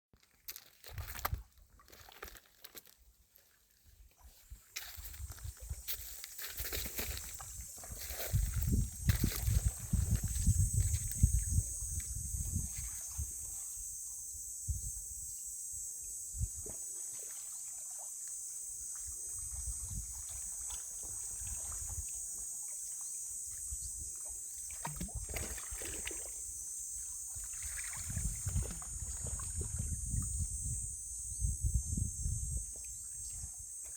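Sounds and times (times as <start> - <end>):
light water sounds: 0.2 - 13.8, 16.5 - 30.4
steady high-pitched hiss: 4.4 - 33.9.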